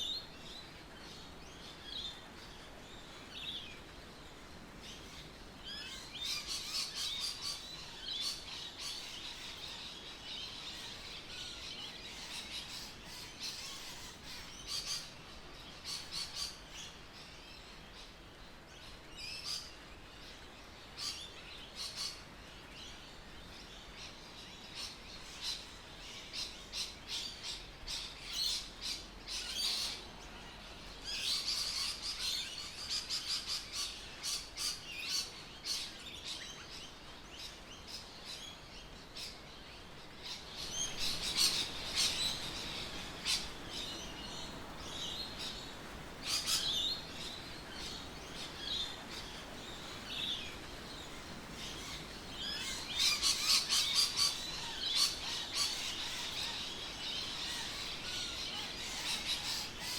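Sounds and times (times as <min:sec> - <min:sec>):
birds chirping and calling: 0:00.0 - 0:18.2, 0:18.9 - 0:59.9
faint steady background noise: 0:00.0 - 0:59.9.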